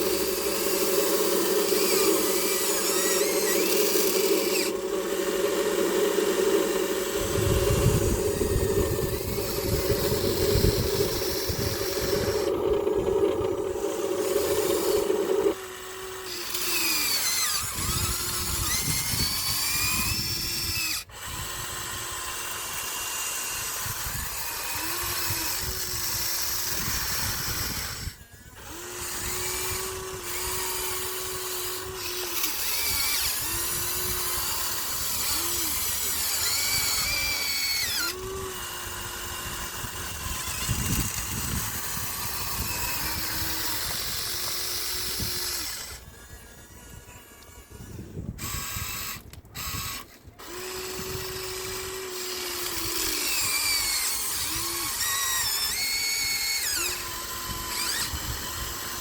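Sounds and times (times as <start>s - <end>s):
electric gear motors whining: 0.0s - 59.0s.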